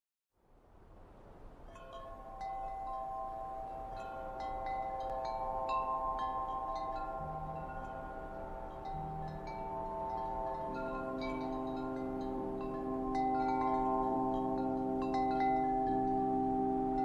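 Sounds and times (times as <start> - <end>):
wind chime tinkling: 1.6 - 17.0.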